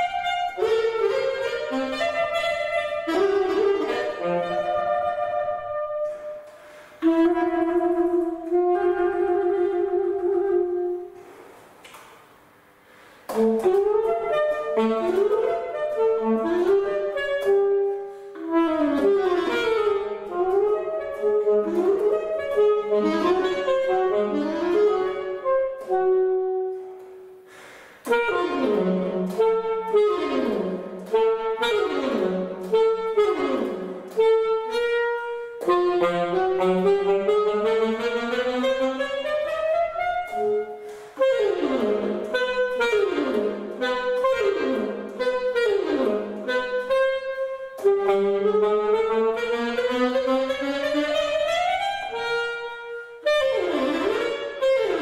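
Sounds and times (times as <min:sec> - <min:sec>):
saxophone playing fast notes: 0:00.0 - 0:11.2, 0:13.3 - 0:55.0.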